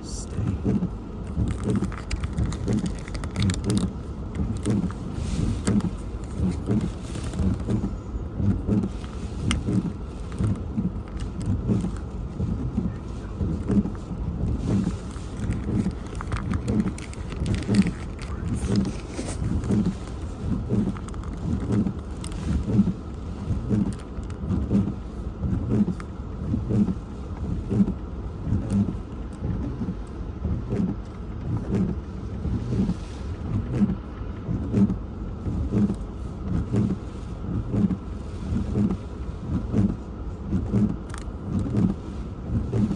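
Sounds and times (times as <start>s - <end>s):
rain hiss on a car: 0.0s - 42.9s
wind battering a car: 0.0s - 42.9s.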